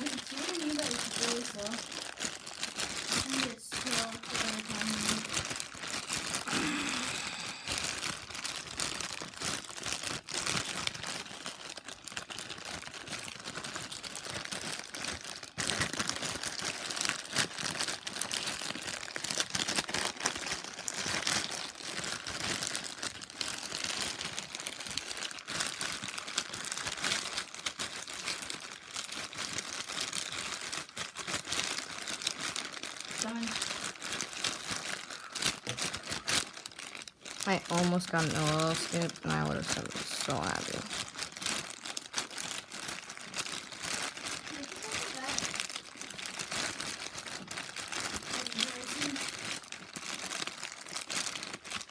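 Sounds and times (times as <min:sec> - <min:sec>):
plastic bag crinkling: 0:00.0 - 0:51.9.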